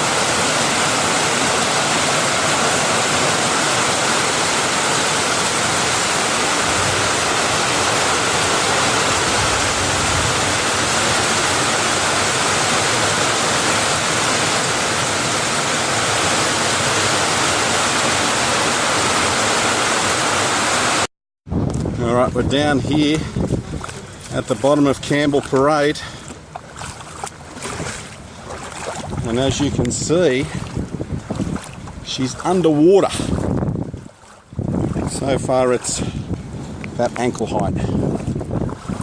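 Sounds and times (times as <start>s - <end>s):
water rushing through rapids: 0.0s - 21.1s, 22.4s - 36.1s.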